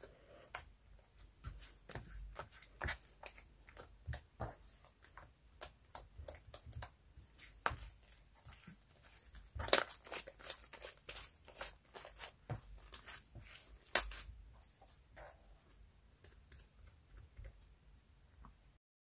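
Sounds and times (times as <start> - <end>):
slime being kneaded by hand: 0.0 - 15.5.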